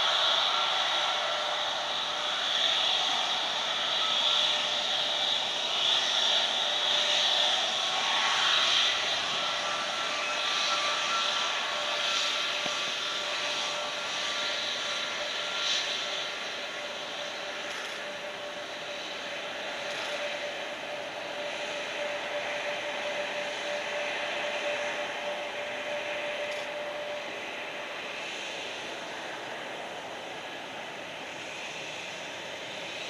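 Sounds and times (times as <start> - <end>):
jet engines whining at taxi: 0.0 - 33.0.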